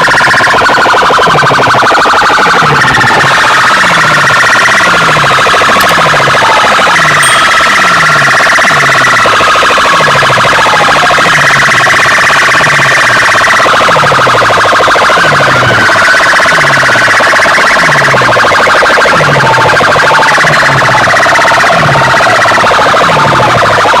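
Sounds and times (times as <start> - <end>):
loud alarm-like electronic music: 0.0 - 24.0.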